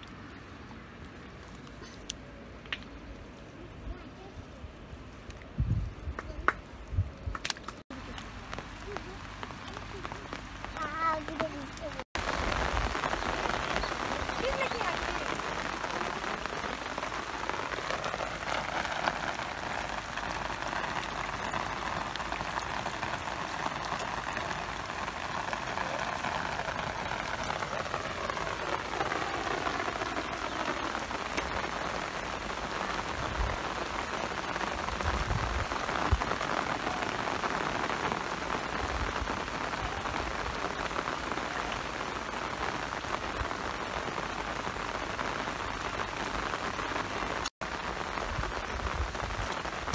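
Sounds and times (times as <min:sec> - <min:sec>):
rain falling on water and plants: 0:00.0 - 0:49.9.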